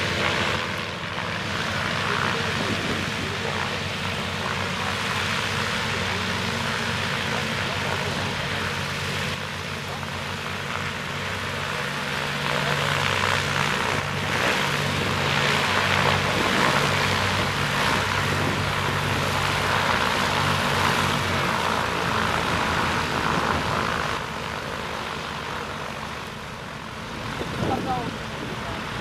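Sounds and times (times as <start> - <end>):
propeller planes taxiing: 0.0 - 29.0.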